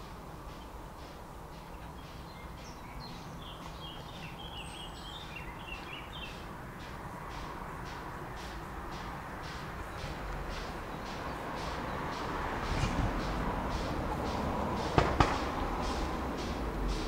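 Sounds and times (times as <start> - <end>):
birds chirping: 0.0 - 17.0
steam locomotive exhaust beats: 0.0 - 17.0.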